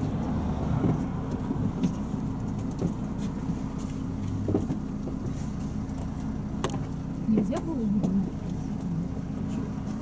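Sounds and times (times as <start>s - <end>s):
minibus engine humming: 0.0s - 10.0s.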